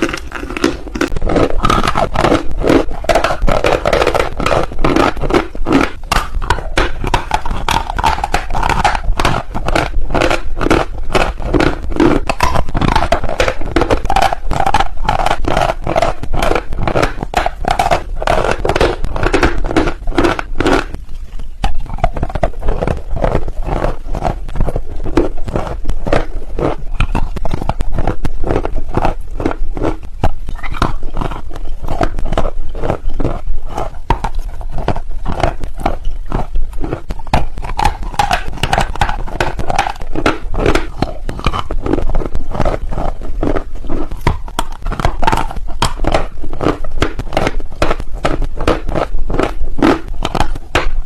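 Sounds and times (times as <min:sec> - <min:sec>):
chalk being chewed: 0:00.0 - 0:51.0.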